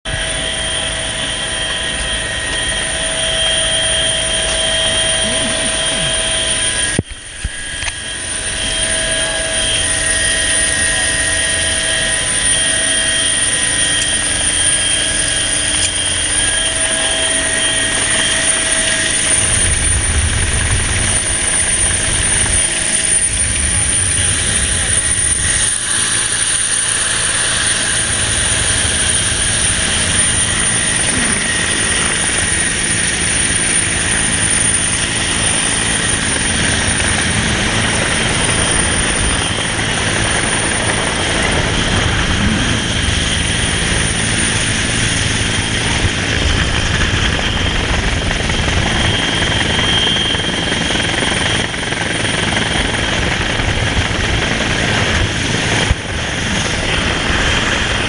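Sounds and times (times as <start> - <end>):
helicopter rotor rumble: 0.0 - 58.0
high-pitched whines: 0.1 - 58.0.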